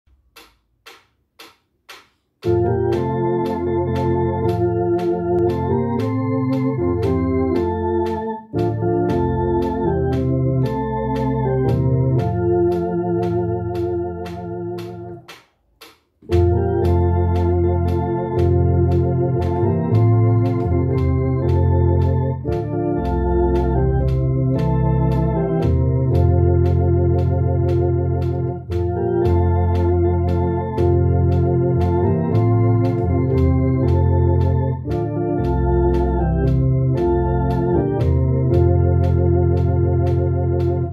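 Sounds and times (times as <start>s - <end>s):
even clicks keeping time: 0.1s - 40.9s
electronic organ playing a hymn: 2.4s - 15.2s, 16.2s - 40.9s.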